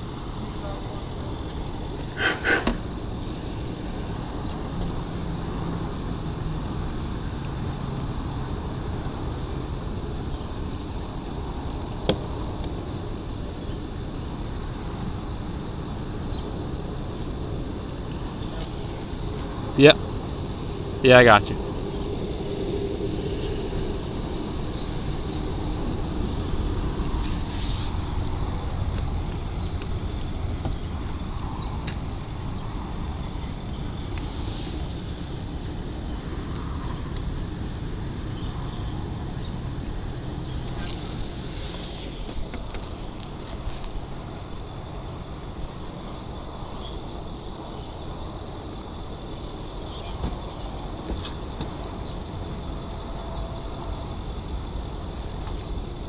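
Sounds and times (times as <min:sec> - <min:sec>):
insect chirping: 0:00.0 - 0:56.0.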